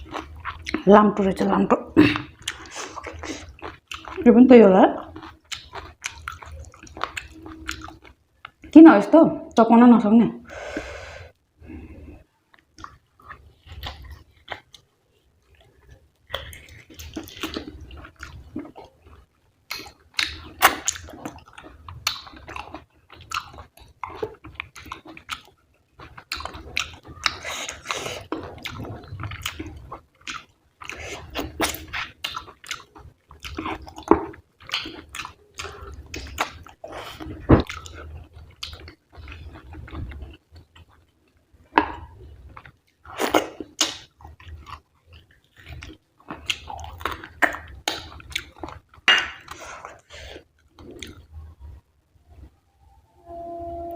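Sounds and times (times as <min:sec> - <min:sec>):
wet chewing and smacking: 0:00.0 - 0:00.8, 0:02.1 - 0:04.4, 0:05.0 - 0:08.8, 0:12.5 - 0:51.8.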